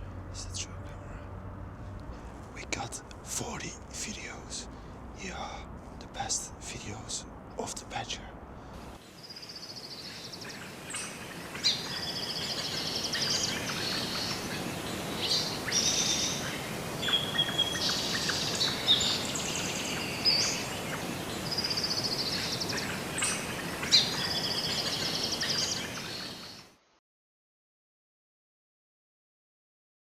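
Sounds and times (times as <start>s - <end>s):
songbirds trilling: 1.8s - 26.6s
steady background hiss: 1.8s - 26.7s.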